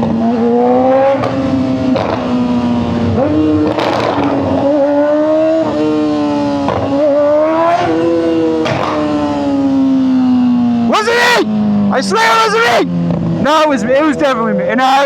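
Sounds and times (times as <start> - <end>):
motorcycle engine at high revs: 0.0 - 12.0, 12.8 - 14.8.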